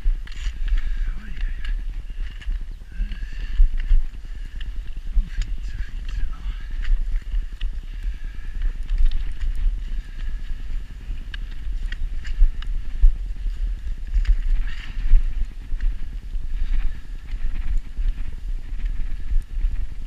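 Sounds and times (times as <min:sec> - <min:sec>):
footsteps crunching on snow: 0:00.0 - 0:20.0.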